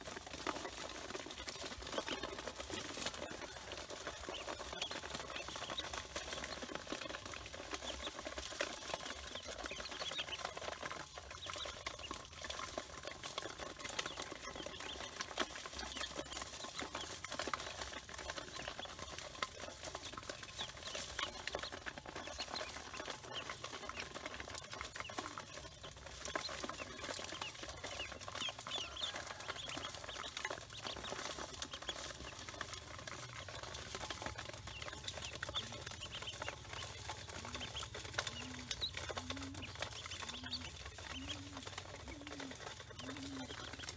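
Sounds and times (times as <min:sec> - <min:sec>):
ducklings peeping: 0:00.0 - 0:43.9.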